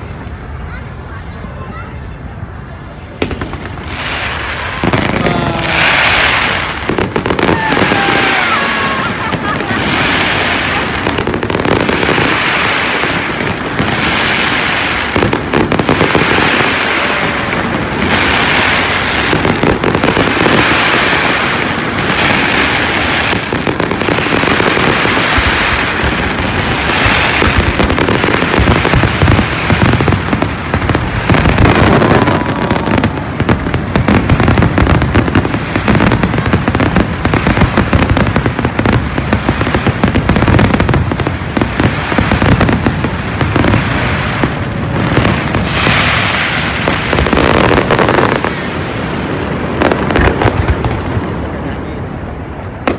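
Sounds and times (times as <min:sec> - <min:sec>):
fireworks crackling: 0:00.0 - 0:52.9
deep firework booms: 0:03.1 - 0:52.9.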